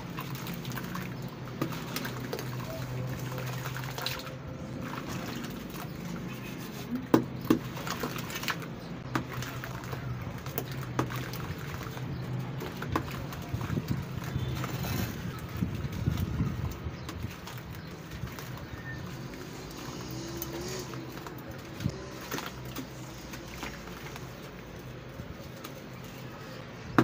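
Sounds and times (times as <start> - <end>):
water dripping and splashing: 0.0 - 27.0
wet brick squelching: 0.0 - 27.0.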